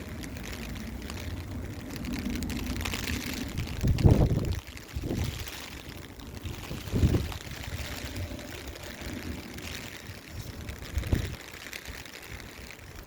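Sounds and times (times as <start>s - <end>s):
heavy rain hiss: 0.0s - 13.0s
wind buffeting microphone: 0.0s - 13.0s.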